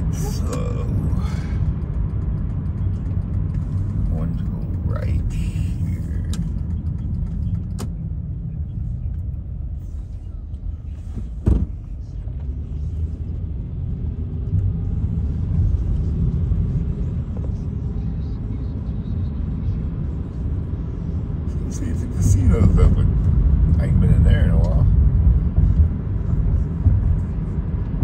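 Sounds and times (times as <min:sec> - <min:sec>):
car engine and tyres rumbling: 0:00.0 - 0:28.0.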